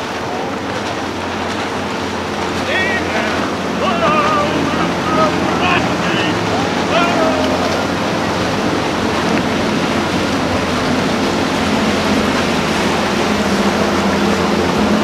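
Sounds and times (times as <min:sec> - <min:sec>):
outboard motor drone: 0:00.0 - 0:15.0
water rushing past hull: 0:00.0 - 0:15.0.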